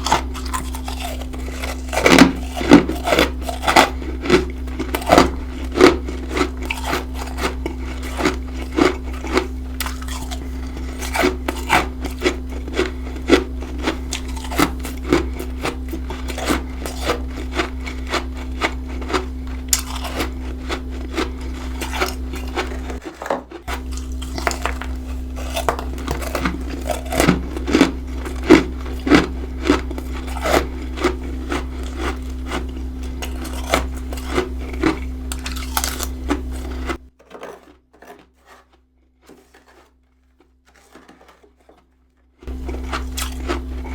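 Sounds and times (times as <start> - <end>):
steady low hum: 0.0 - 37.2, 42.4 - 43.9
crunching and chewing frost: 0.0 - 43.9.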